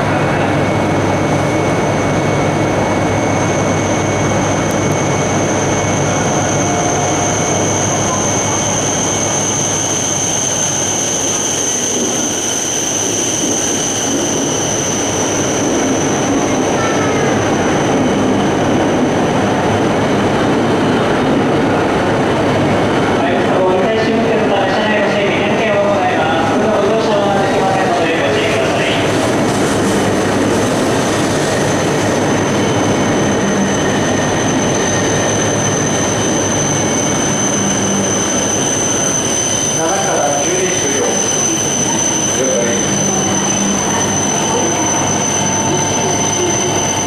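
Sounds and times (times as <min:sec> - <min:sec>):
high-pitched whine: 0:00.0 - 0:20.1, 0:24.3 - 0:47.0
train running rumble: 0:00.0 - 0:47.0.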